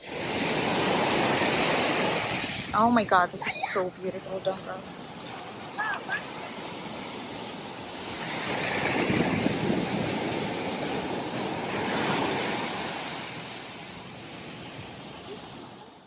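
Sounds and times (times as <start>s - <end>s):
sea surf breaking on beach: 0.0s - 16.0s.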